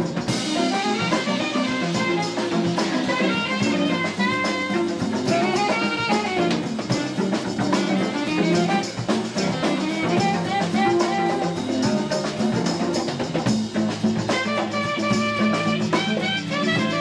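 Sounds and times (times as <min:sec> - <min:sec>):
drum kit and congas beat: 0:00.0 - 0:17.0
jazz band playing: 0:00.0 - 0:17.0
saxophone melody: 0:00.3 - 0:13.2, 0:14.2 - 0:17.0.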